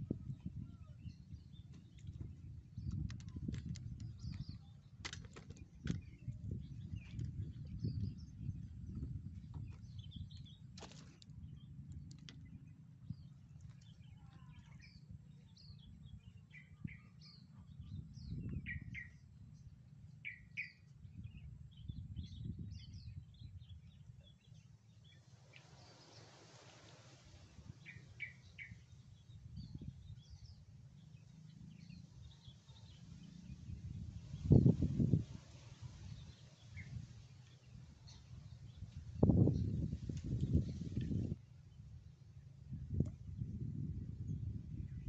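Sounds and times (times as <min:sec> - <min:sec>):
faint low rumble: 0:00.0 - 0:45.0
small birds chirping: 0:00.0 - 0:45.0.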